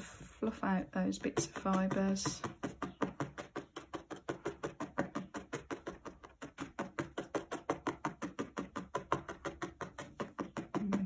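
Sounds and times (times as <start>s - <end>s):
felting needle tapping into foam: 0.7s - 11.0s.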